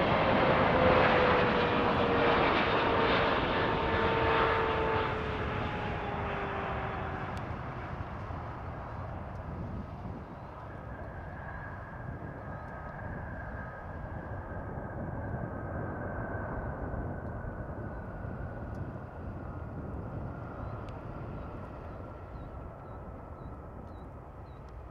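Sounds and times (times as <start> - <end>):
jet engine roar: 0.0 - 24.9.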